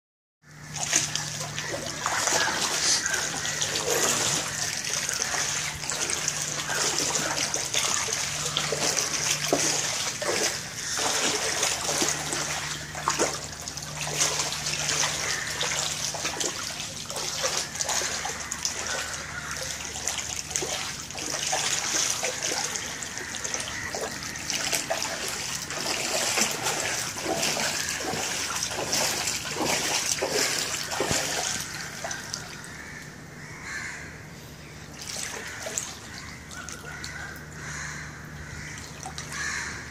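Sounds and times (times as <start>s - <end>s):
running water: 0.5s - 33.0s, 34.8s - 39.9s
small water splashes: 0.5s - 33.0s, 34.7s - 39.9s.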